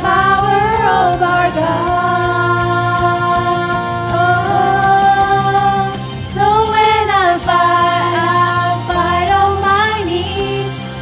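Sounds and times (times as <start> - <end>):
praise band worship music: 0.0 - 11.0.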